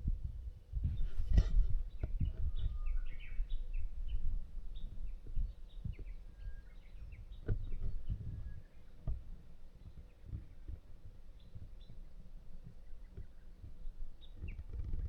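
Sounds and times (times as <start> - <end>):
small birds chirping: 0.9 - 15.0.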